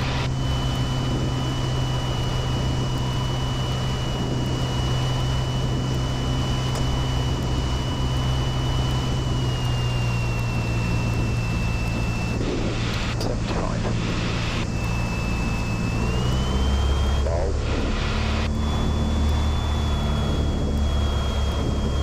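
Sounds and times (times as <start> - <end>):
aircraft piston engine drone: 0.0 - 22.0
thin high whine: 0.0 - 22.0.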